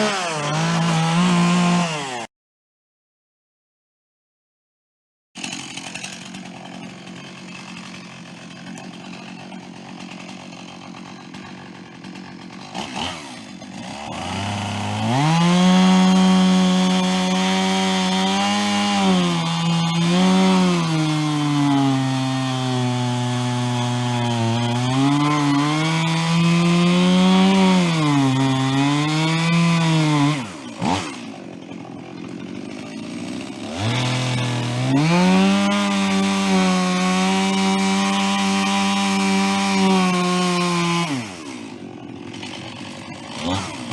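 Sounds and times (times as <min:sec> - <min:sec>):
chainsaw cutting wood: 0:00.0 - 0:02.3, 0:05.4 - 0:43.9.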